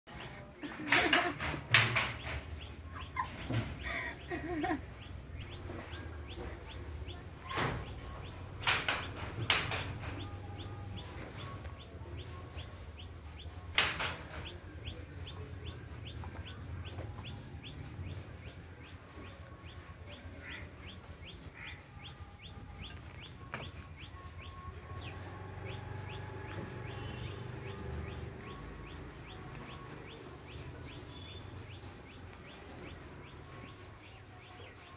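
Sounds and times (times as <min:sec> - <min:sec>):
small bird chirping: 0:01.7 - 0:34.9.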